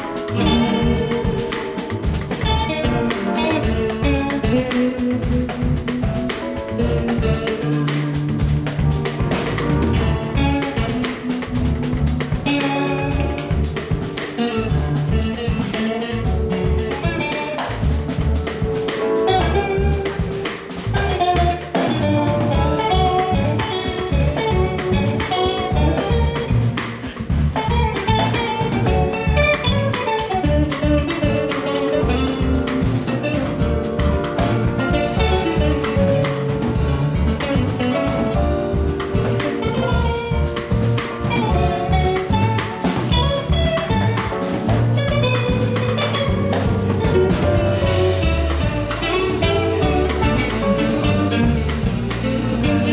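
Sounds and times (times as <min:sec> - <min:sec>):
bass: 0:00.0 - 0:52.9
drum kit: 0:00.0 - 0:52.9
guitar: 0:00.0 - 0:52.9
piano: 0:00.0 - 0:52.9.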